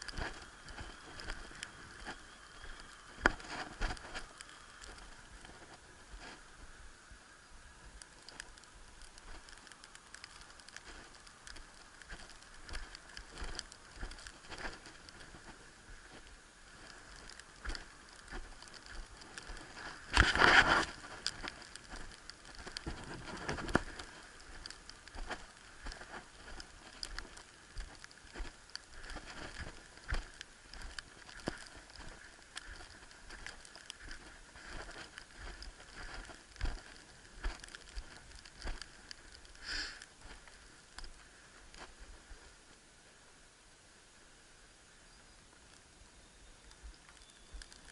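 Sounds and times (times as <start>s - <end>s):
footsteps crunching through snow: 0.0s - 6.8s, 8.0s - 42.5s.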